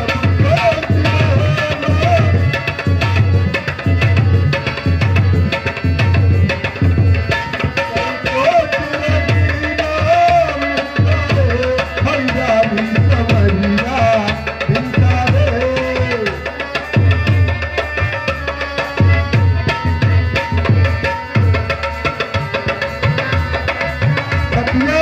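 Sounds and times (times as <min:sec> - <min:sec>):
tabla playing a rhythm: 0:00.0 - 0:25.0.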